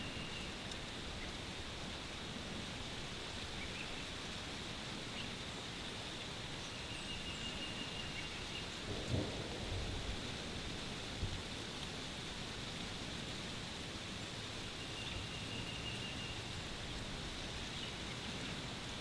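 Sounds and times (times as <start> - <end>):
breeze in trees and leaves: 0.0 - 19.0.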